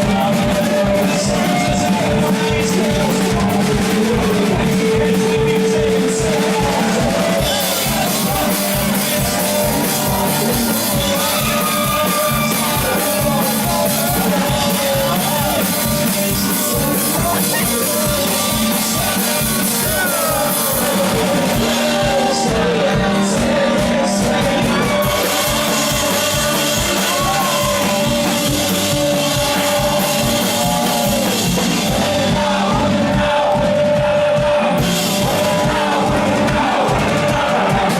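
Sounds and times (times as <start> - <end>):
drum kit beat: 0.0 - 37.9
live rock band playing: 0.0 - 37.9
person singing: 0.0 - 37.9.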